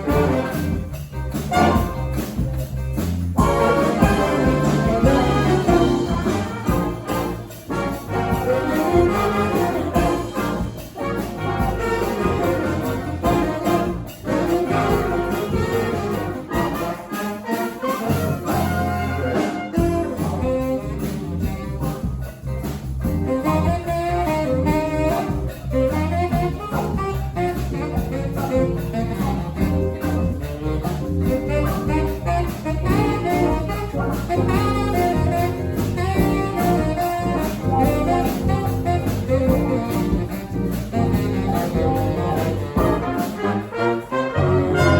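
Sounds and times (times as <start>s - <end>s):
drum beat: 0.0s - 22.2s, 22.9s - 44.0s
brass band playing: 0.0s - 44.9s.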